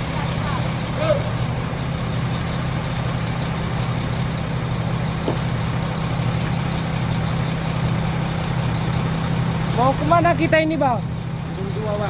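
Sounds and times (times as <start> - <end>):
heavy diesel engine idling: 0.0 - 12.0.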